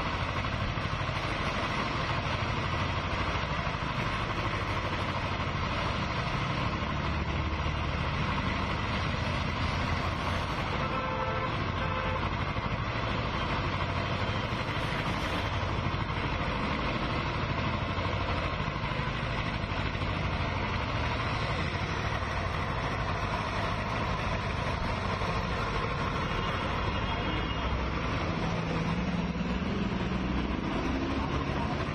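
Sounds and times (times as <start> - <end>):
street traffic with engines running: 0.0 - 31.9.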